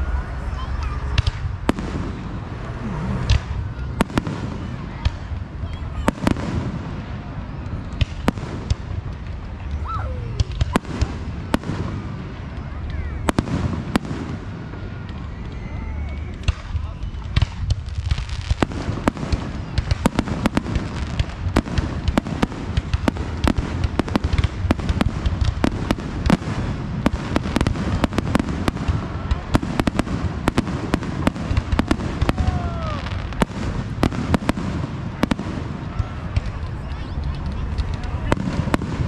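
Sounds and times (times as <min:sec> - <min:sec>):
continuous low rumble: 0:00.0 - 0:39.0
fireworks bangs and crackles: 0:00.0 - 0:39.0.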